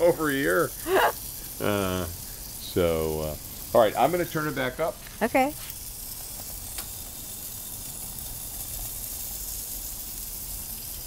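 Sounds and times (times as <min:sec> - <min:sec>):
gas burner flame rushing: 0:00.0 - 0:11.0
patties sizzling on a griddle: 0:00.0 - 0:11.0.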